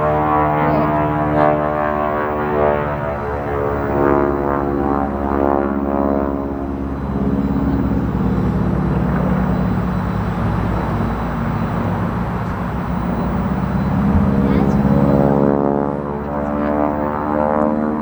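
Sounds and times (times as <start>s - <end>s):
propeller airplane engine drone: 0.0s - 18.0s.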